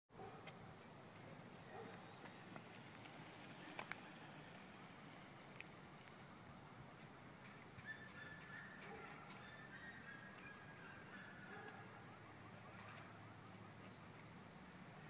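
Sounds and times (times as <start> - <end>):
faint outdoor hiss: 0.1 - 15.0.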